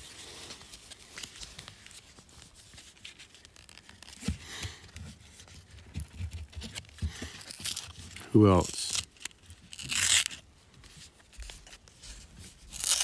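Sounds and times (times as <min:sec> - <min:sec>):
foil wrapper crinkling and tearing: 0:00.0 - 0:04.9, 0:06.4 - 0:10.5, 0:11.1 - 0:13.0.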